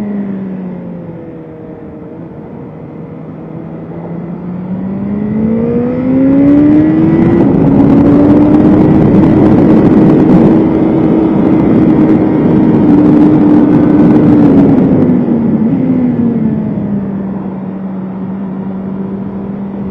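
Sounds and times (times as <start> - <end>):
motorcycle engine accelerating: 0.0 - 19.9.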